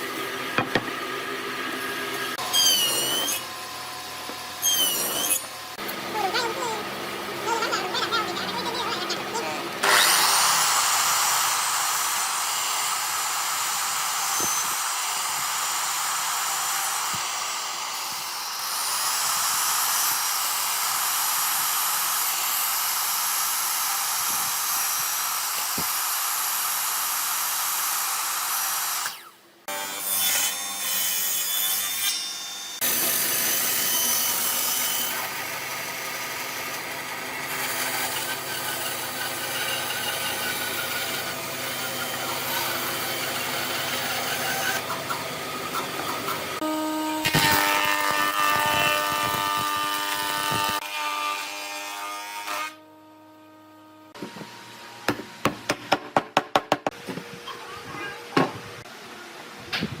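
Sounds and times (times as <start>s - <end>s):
power tool whining on wood: 2.1s - 6.8s, 7.4s - 55.5s.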